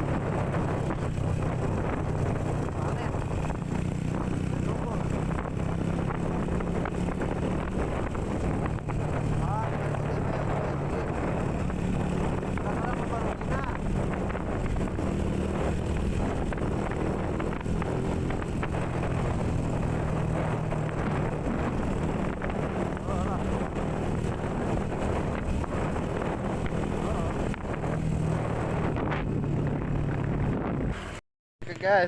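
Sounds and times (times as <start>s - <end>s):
wind buffeting microphone: 0.0s - 31.2s
motorcycle engine running: 0.0s - 32.0s.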